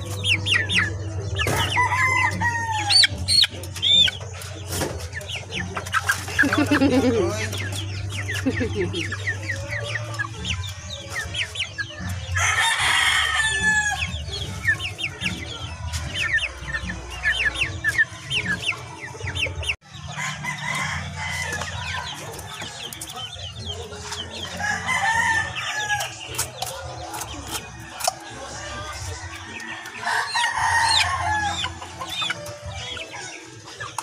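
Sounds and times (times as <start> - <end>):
chickens peeping and clucking: 0.0 - 34.0.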